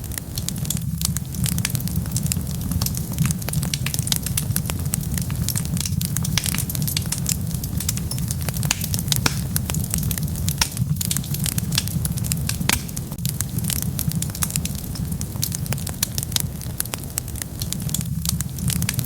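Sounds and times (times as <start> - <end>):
burning logs crackling and popping: 0.0 - 19.0
low rumble of flames: 0.0 - 19.0.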